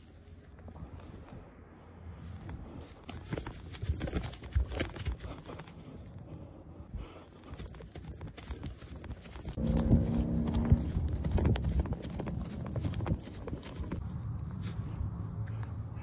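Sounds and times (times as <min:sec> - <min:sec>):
hands and feet padding on grass: 0:00.0 - 0:16.0.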